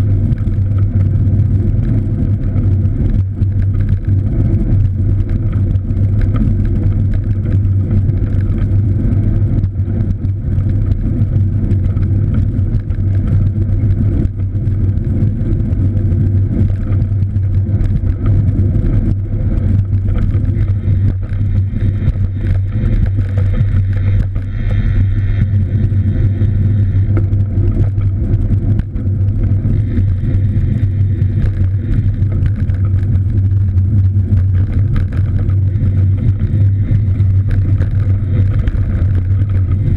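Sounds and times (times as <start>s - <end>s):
wind and road noise rumble: 0.0s - 39.9s.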